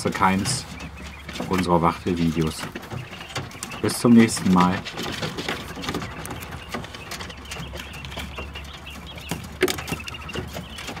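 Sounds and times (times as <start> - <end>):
quails pecking on straw: 0.0 - 11.0
soft high chirping calls: 0.0 - 11.0.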